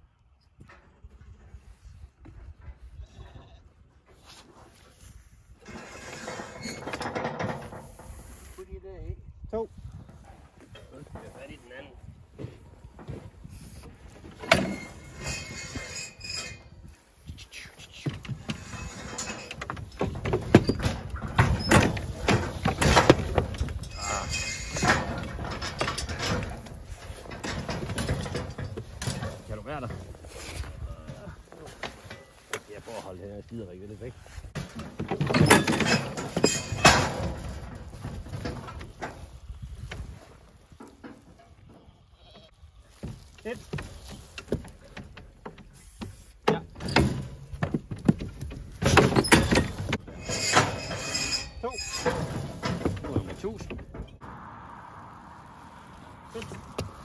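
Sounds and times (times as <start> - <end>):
hooves clattering on metal: 5.6 - 8.7, 9.9 - 54.2.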